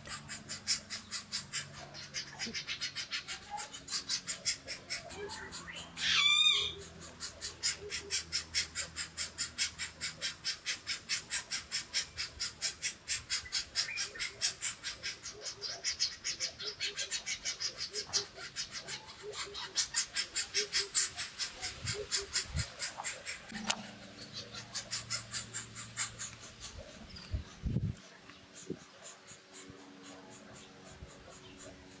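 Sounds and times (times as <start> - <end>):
woodpecker nestling begging calls: 0.0 - 32.0.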